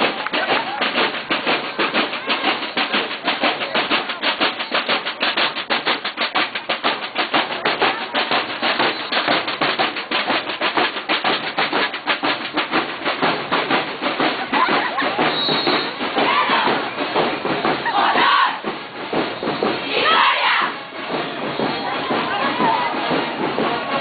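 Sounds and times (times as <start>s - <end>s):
marching snare drums: 0.0s - 24.0s.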